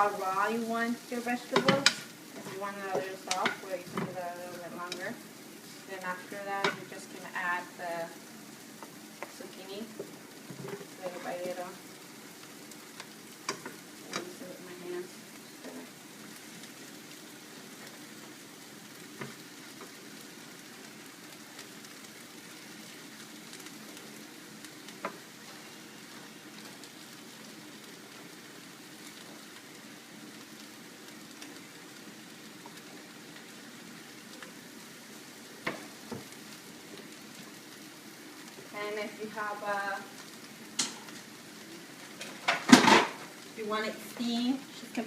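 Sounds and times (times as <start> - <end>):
vegetables sizzling in a pan: 0.0 - 45.0.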